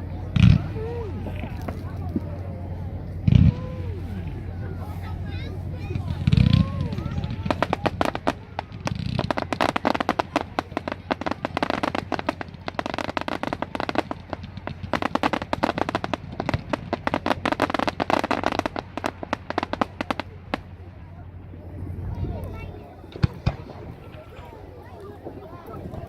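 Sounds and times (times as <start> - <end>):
fireworks crackling: 0.0 - 21.5, 22.4 - 26.0.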